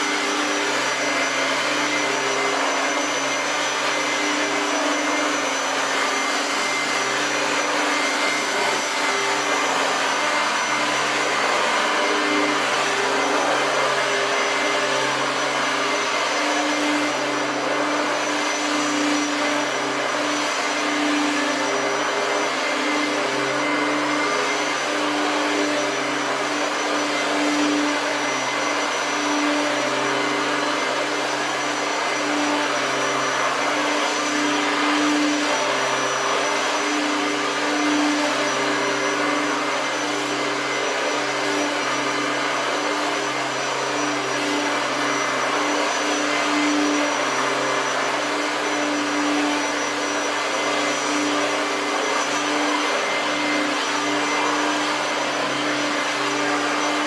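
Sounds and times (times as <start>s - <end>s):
upright vacuum cleaner running: 0.0s - 57.0s.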